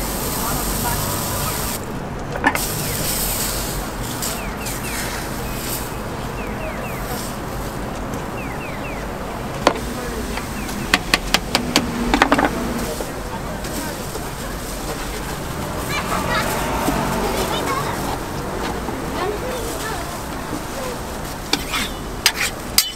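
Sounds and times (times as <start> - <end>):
street noise with low hum: 0.0 - 22.9.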